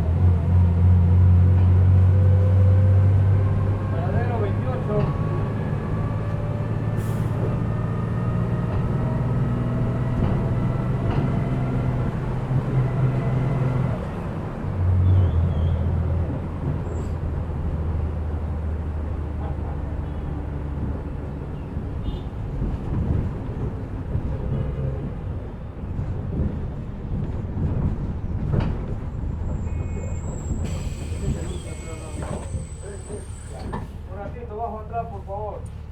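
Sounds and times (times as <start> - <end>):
bus engine hum and whine: 0.0 - 35.9
road rumble: 0.0 - 35.9.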